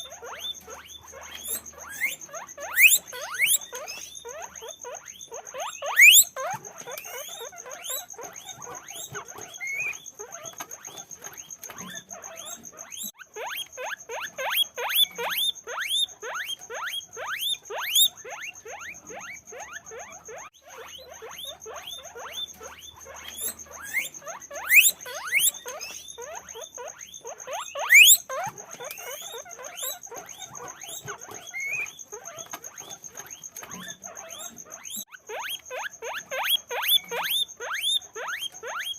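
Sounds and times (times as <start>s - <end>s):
guinea pigs squeaking: 0.0s - 38.9s.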